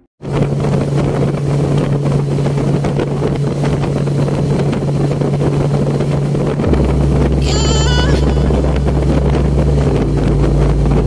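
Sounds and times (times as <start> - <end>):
outboard motor running: 0.2 - 11.0
wind buffeting microphone: 0.2 - 11.0.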